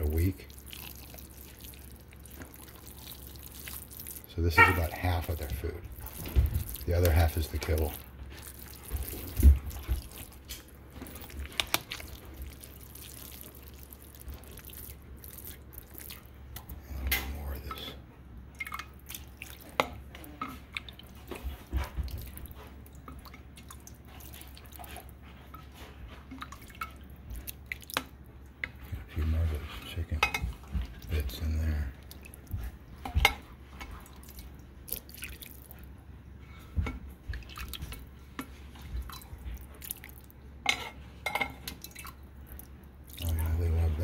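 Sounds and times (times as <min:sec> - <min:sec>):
spoon stirring wet mash: 0:00.0 - 0:18.0, 0:18.6 - 0:44.0
gravy dripping: 0:00.0 - 0:44.0.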